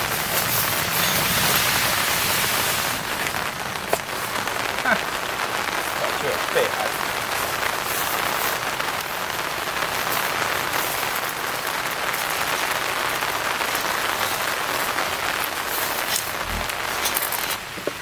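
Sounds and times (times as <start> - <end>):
heavy rain on tent fabric: 0.0 - 18.0.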